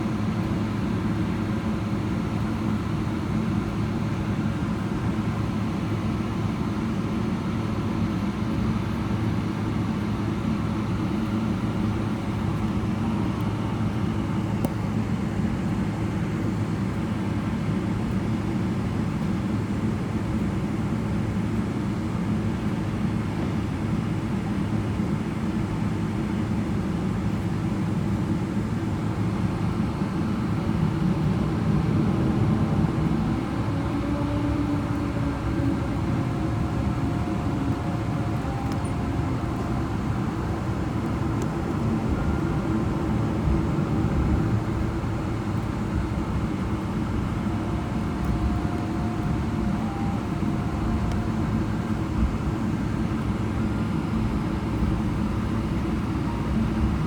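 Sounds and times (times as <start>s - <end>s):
airplane cabin low rumble: 0.0s - 57.0s
faint engine whining: 0.0s - 57.0s.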